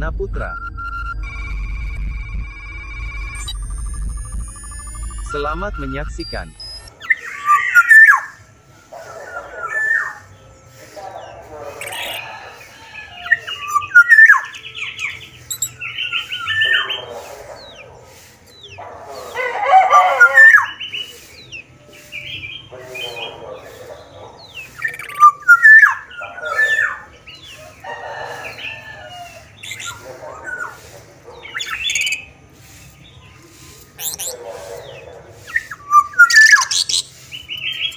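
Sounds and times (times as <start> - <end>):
oriole singing and squawking: 3.4 - 37.9.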